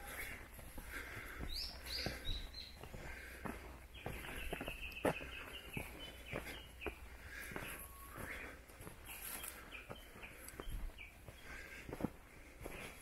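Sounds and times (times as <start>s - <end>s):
birds chirping: 0.0s - 13.0s
footsteps on leafy dirt trail: 0.0s - 13.0s.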